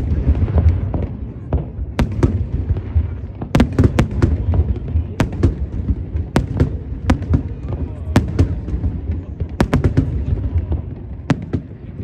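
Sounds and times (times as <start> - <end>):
firework bangs: 0.0 - 12.0.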